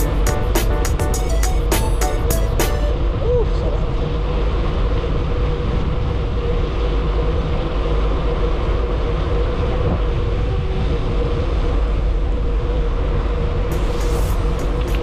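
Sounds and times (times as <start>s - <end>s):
constant drone: 0.0s - 15.0s
heavy wind and road noise: 0.0s - 15.0s
vehicle rumble: 0.0s - 15.0s.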